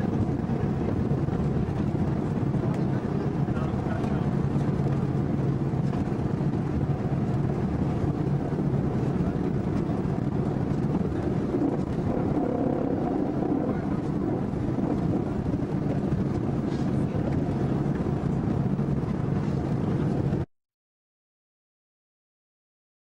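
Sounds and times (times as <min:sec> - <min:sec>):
vehicle engine and road rumble: 0:00.0 - 0:20.5.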